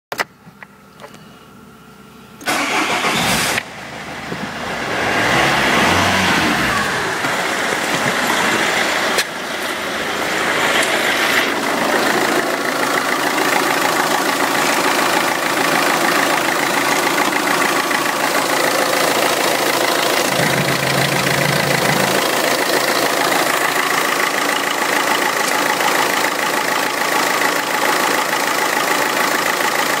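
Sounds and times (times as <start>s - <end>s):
diesel engine idling: 2.4s - 30.0s.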